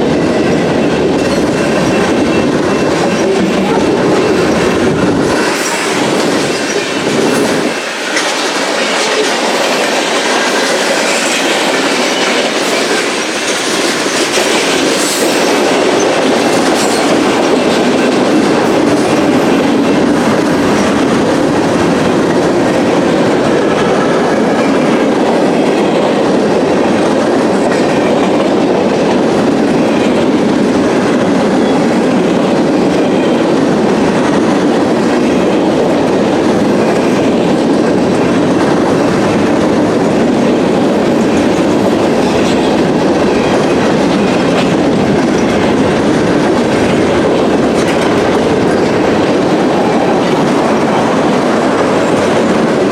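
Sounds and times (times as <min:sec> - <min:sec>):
train wheels clattering on rails: 0:00.0 - 0:52.9.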